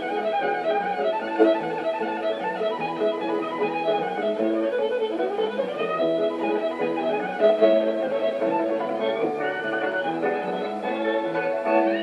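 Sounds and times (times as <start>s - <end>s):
violin playing fast runs: 0.0s - 12.0s.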